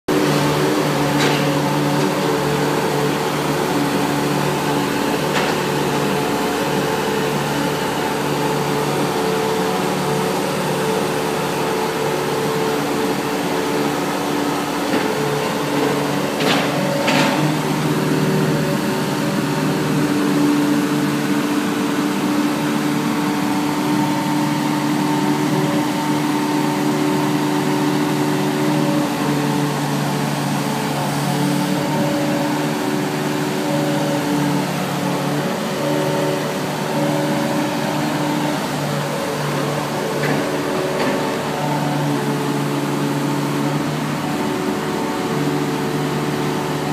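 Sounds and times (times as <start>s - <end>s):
excavator diesel engine running: 0.1s - 46.9s.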